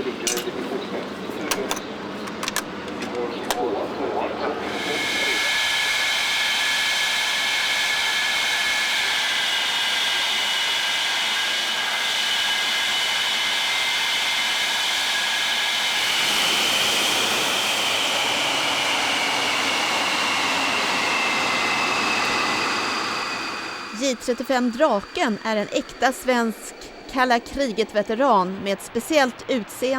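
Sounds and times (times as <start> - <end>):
jet engine roaring: 0.0 - 29.9.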